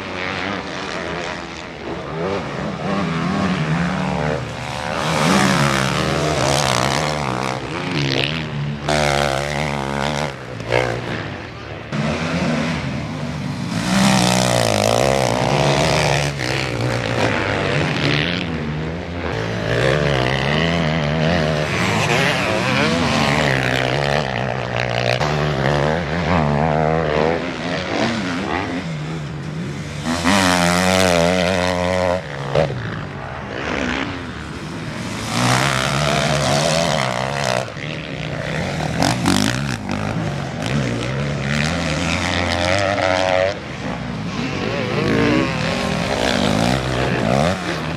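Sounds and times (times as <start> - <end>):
motocross bikes racing past: 0.0 - 47.9.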